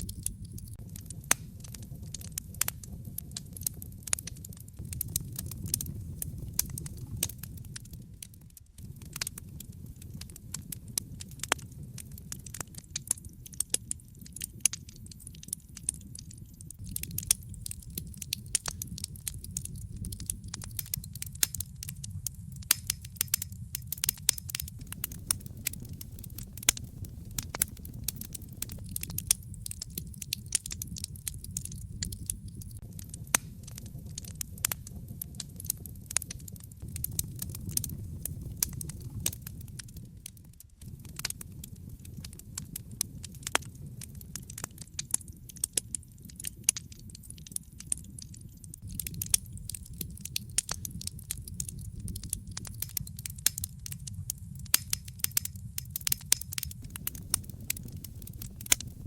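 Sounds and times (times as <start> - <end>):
low rumble of burning logs: 0.0 - 59.0
wood fire crackling: 0.0 - 59.0.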